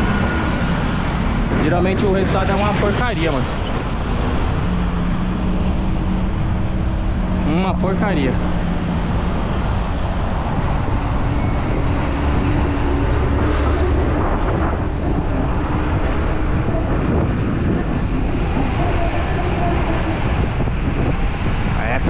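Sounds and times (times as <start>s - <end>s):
road traffic: 0.0s - 22.0s
wind rumbling on microphone: 0.0s - 22.0s.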